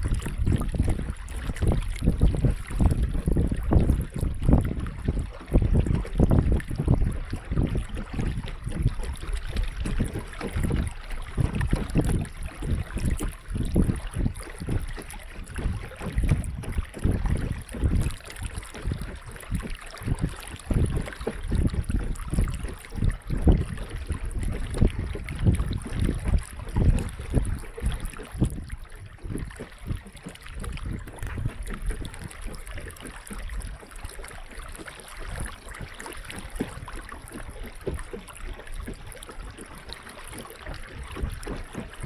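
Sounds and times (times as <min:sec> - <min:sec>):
water lapping against boat hull: 0:00.0 - 0:42.0
wind buffeting microphone: 0:00.0 - 0:42.0.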